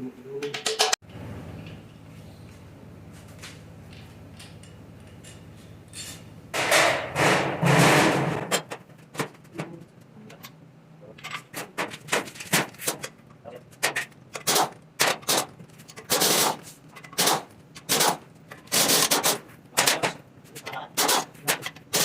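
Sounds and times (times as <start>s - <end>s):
steady low hum: 1.0s - 22.0s.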